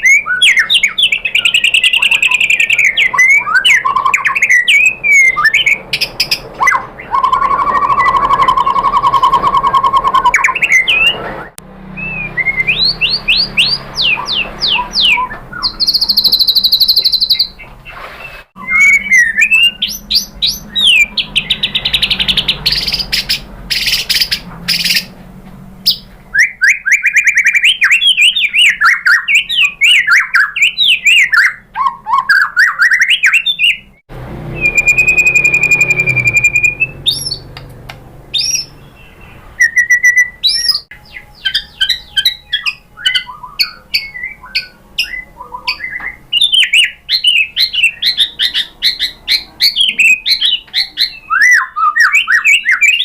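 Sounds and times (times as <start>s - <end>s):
songbird singing whistles and trills: 0.0s - 25.1s, 25.8s - 37.5s, 38.3s - 53.0s.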